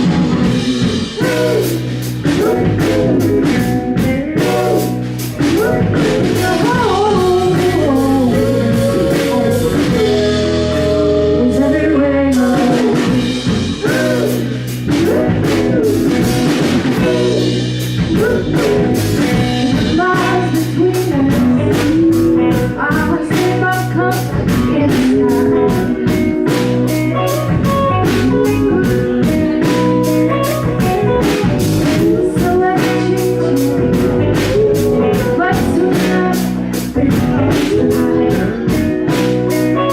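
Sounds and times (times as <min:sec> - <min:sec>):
bass guitar: 0:00.0 - 0:39.9
drum kit beat: 0:00.0 - 0:39.9
electric guitar: 0:00.0 - 0:39.9
person singing: 0:00.0 - 0:39.9.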